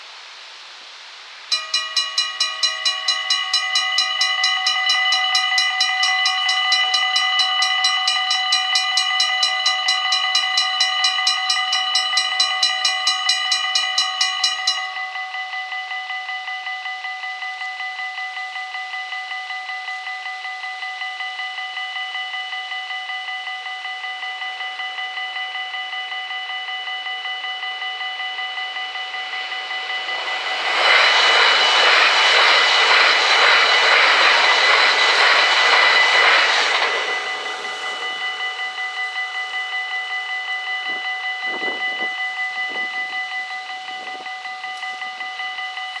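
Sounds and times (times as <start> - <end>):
train passing: 0.0 - 19.1, 20.1 - 46.0
level crossing bells ringing: 1.5 - 46.0.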